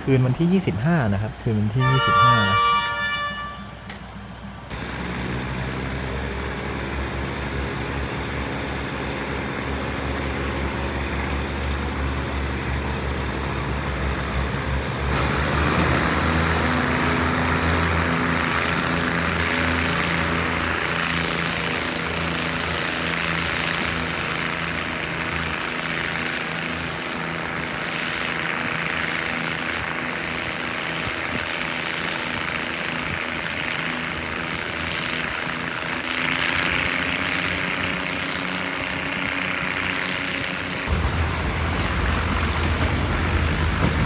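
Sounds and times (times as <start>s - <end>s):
diesel railcar engine drone: 0.0s - 44.0s
wheel and rail noise: 0.0s - 44.0s.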